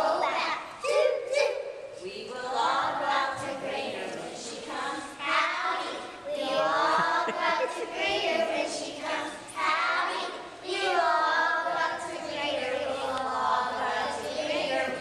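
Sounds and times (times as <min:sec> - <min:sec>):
children singing together: 0:00.0 - 0:15.0.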